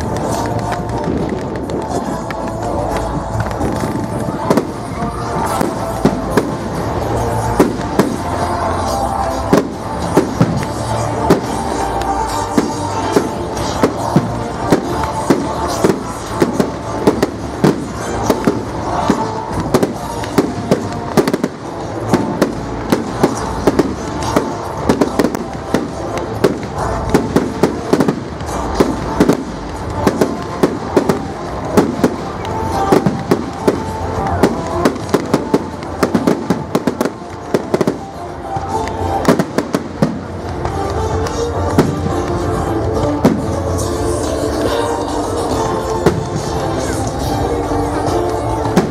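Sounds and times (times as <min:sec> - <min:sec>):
fireworks bangs and crackling: 0:00.0 - 0:48.9
music playing: 0:00.0 - 0:48.9.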